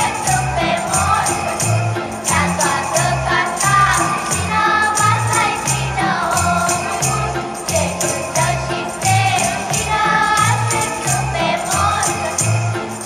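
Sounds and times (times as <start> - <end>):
jingle bells shaken: 0.0 - 13.0
voices singing a carol: 0.0 - 13.0.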